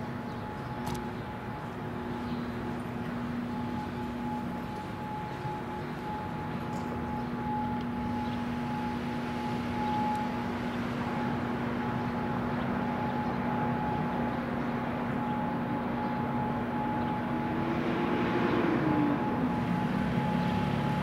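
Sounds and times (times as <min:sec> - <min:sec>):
distant warning sirens: 0:00.0 - 0:21.0
low wavering tone: 0:00.0 - 0:21.0
outdoor hum: 0:00.0 - 0:21.0.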